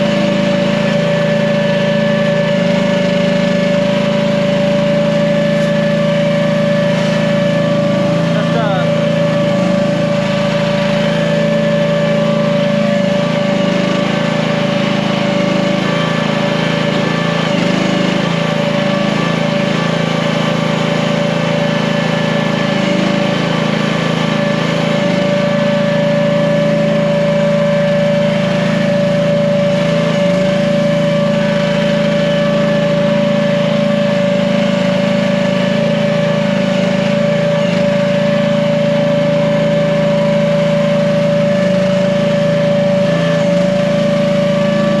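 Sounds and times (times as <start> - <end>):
small gasoline engine running: 0.0 - 45.0.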